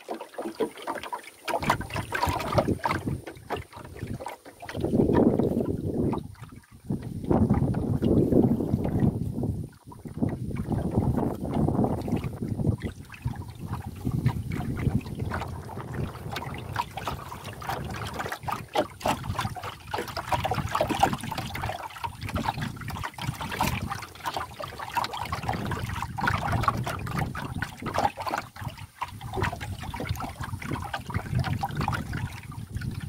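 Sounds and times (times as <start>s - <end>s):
water slapping canoe hull: 0.0s - 33.0s.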